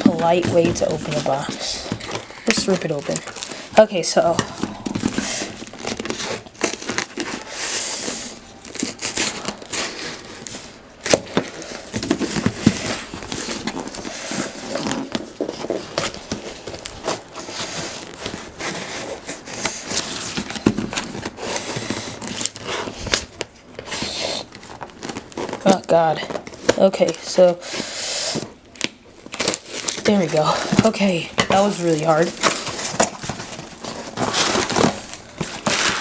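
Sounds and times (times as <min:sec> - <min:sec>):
cardboard packaging ripping: 0:00.0 - 0:36.0.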